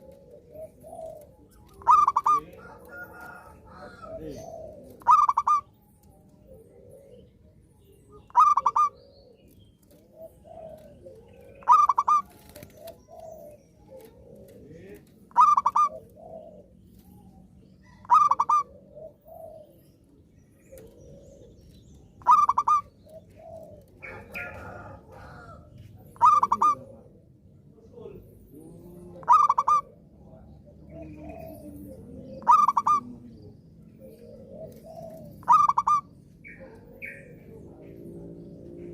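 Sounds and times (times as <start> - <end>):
dove cooing: 0.0 - 38.9
soft low bird calls: 0.0 - 38.9.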